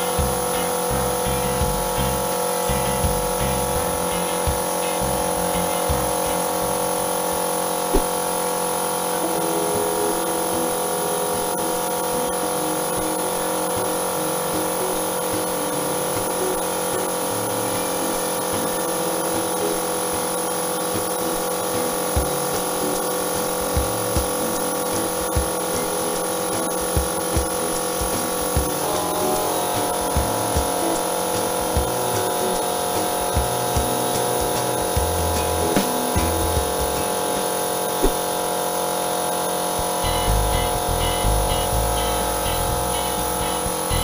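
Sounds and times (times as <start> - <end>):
air hissing: 0.0 - 44.0
airbrush compressor hum: 0.0 - 44.0.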